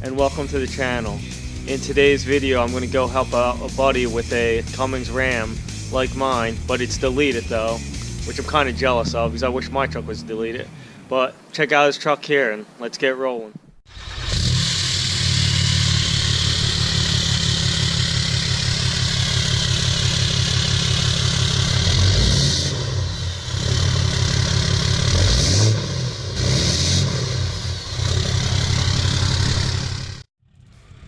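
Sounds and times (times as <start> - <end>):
diesel engine deep pulsing exhaust: 0.0 - 10.9, 13.9 - 31.0.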